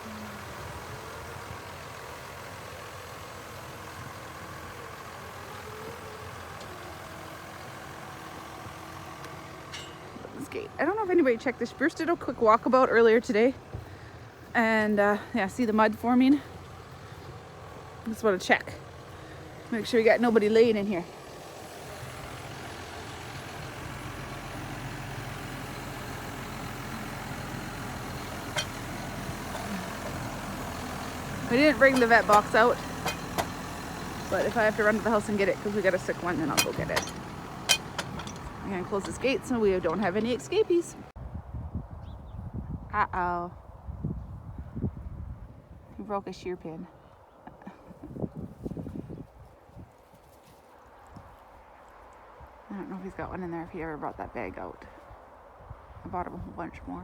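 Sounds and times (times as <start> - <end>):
tractor engine rumbling: 0.0 - 41.2, 52.2 - 57.0.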